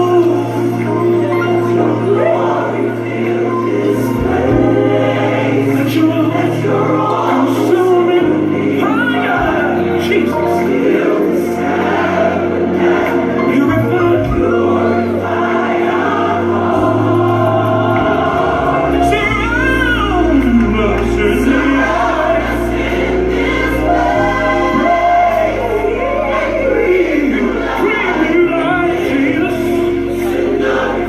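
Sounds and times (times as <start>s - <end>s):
choir singing gospel: 0.0s - 31.0s
sustained bass: 0.0s - 31.0s.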